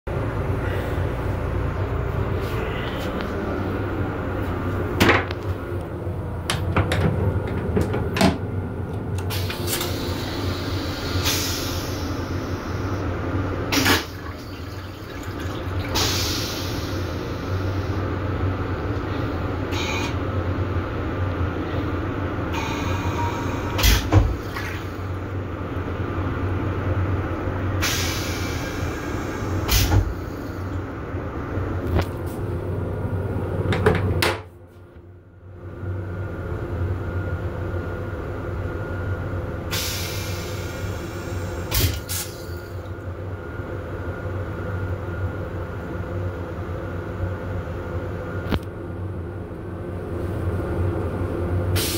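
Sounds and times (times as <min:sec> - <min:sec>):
train car rumble and hum: 0:00.0 - 0:51.9.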